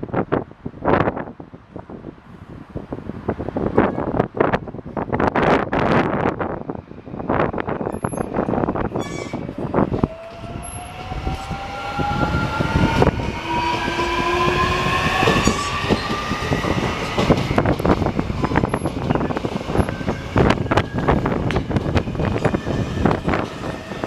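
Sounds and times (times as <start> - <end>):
train running rumble: 2.6 - 24.0.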